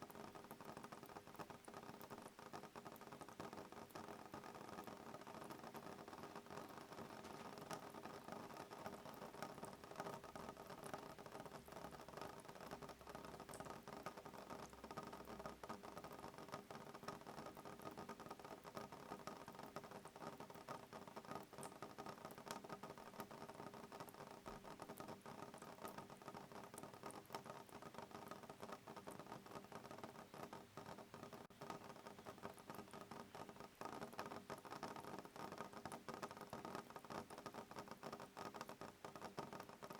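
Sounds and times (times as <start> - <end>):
soft rain on a window: 0.0 - 39.9.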